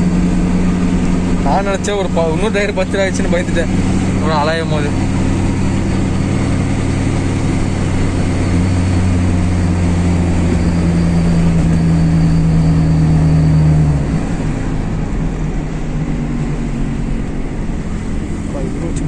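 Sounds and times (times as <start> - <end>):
car engine: 0.0 - 19.0
road noise inside car: 0.0 - 19.0.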